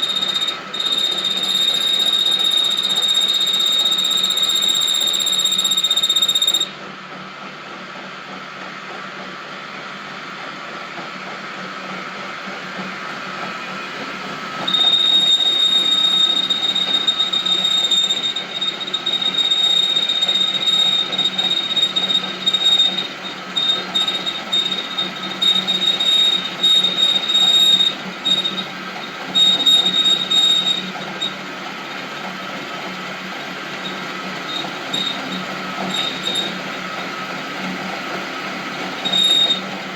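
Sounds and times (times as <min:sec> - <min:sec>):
cutting tool squealing: 0:00.0 - 0:06.7, 0:14.5 - 0:39.9
metal lathe humming: 0:00.0 - 0:06.7, 0:13.3 - 0:39.9.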